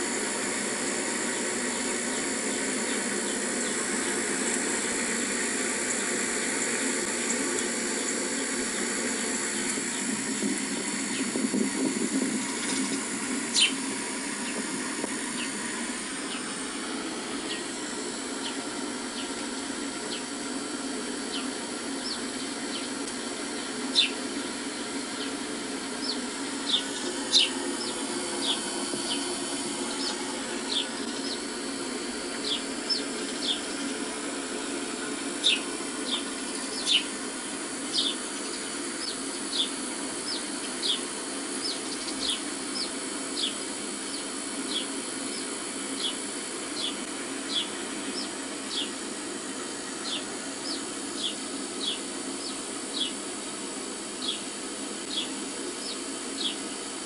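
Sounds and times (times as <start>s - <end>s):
sparrows chirping: 0.0s - 53.4s, 54.1s - 56.8s
steady low hum: 0.0s - 57.0s.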